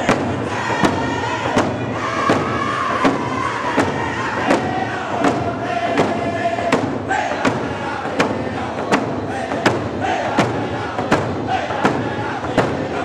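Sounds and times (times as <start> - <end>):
frame drums beating: 0.0 - 13.0
group of voices singing: 0.0 - 13.0.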